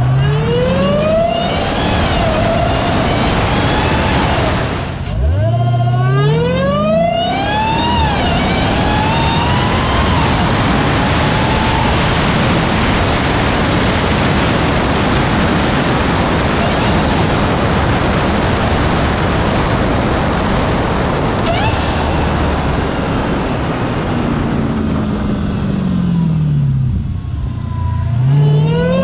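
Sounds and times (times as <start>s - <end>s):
car engine accelerating: 0.0s - 29.0s
supercharger whine: 0.0s - 29.0s
wind and road noise: 0.0s - 29.0s.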